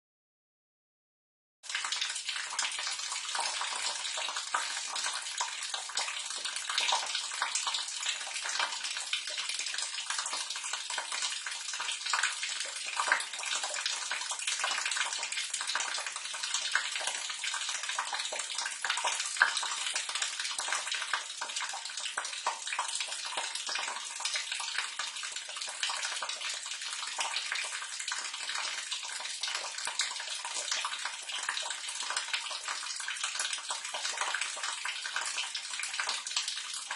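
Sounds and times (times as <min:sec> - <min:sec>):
water pouring into drain: 0:01.6 - 0:36.9.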